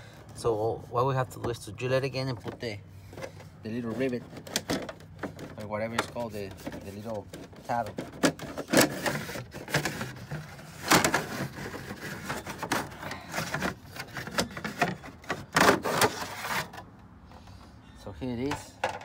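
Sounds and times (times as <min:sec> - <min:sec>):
plastic panel clattering and rubbing: 0:01.4 - 0:16.9.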